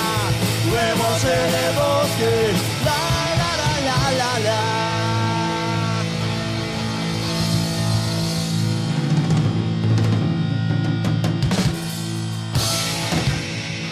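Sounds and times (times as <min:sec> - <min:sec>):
live rock band playing: 0:00.0 - 0:13.9.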